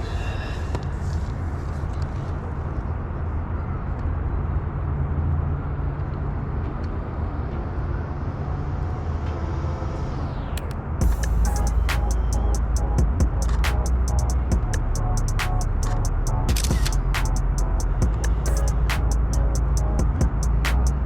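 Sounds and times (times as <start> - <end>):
distant road traffic: 3.8 - 21.0.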